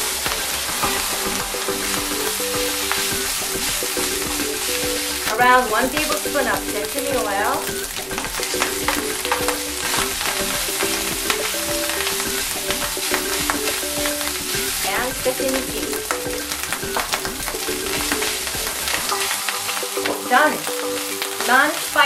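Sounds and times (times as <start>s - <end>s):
rice sizzling in a frying pan: 0.0s - 22.0s
soft background music: 0.0s - 22.0s.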